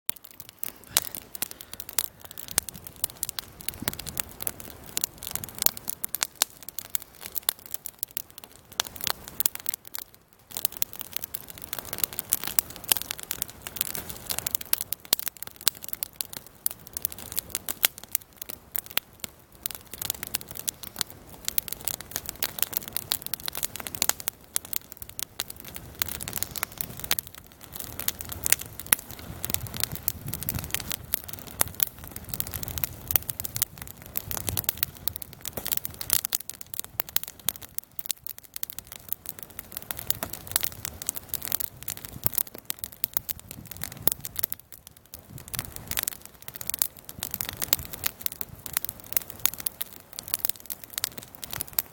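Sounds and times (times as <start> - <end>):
campfire crackling and popping: 0.1 - 51.9.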